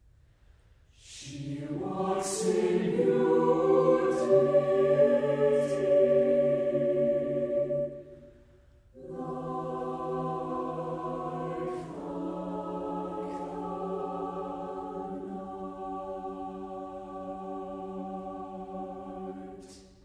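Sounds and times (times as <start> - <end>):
choir singing sustained chords: 1.0 - 20.0.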